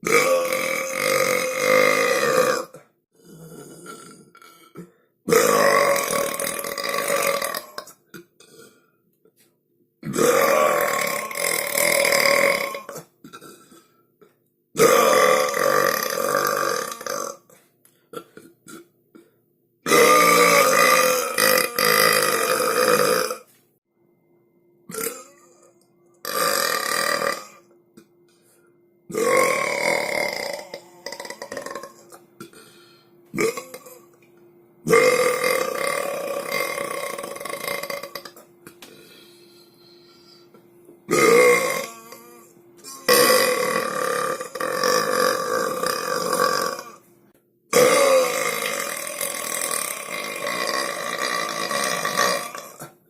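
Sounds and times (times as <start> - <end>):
person burping loudly: 0.0 - 9.0, 10.0 - 14.0, 14.8 - 23.5, 24.9 - 28.1, 29.1 - 34.2, 34.8 - 39.2, 41.1 - 47.1, 47.7 - 53.0.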